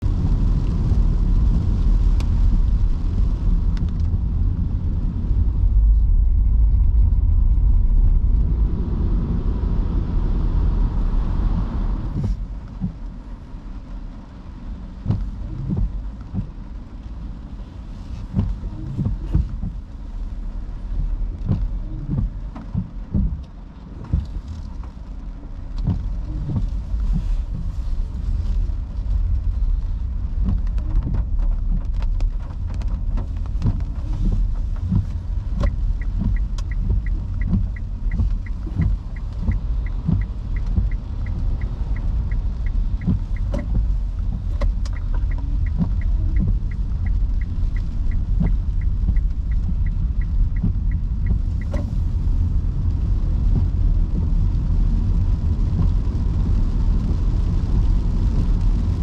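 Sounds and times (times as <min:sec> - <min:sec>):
car road rumble: 0:00.0 - 0:59.0
heavy rain: 0:00.0 - 0:59.0.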